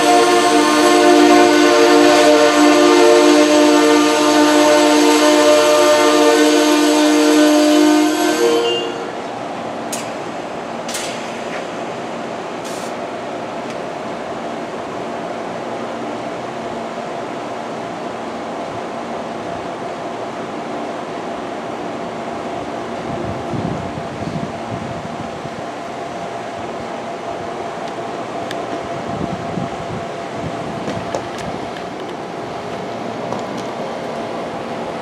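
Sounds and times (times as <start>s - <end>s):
stopped train humming: 0.0s - 35.0s.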